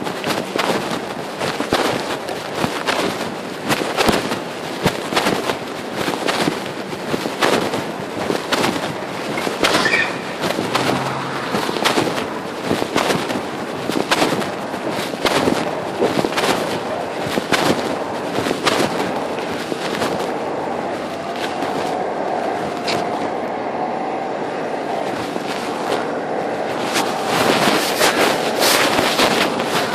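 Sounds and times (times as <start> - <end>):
fabric rubbing on microphone: 0.0 - 23.4, 24.5 - 29.9.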